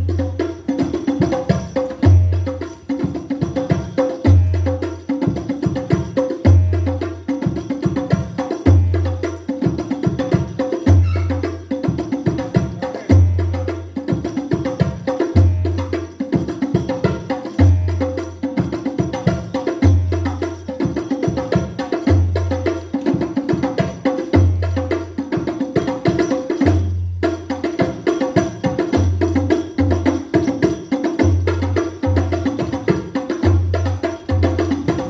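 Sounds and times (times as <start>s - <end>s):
frame drum percussion: 0.0s - 35.0s.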